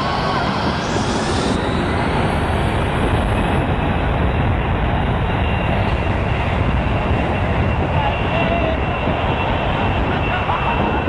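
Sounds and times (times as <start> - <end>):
jet engine blast: 0.0 - 11.0
wind buffeting microphone: 0.0 - 11.0.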